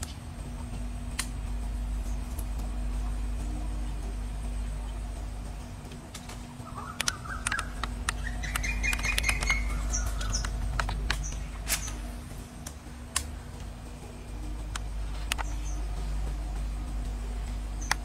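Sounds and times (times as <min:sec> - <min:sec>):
sharp ticks: 0:00.0 - 0:18.0
small birds chirping: 0:00.0 - 0:18.0
steady low rumble: 0:00.0 - 0:18.0.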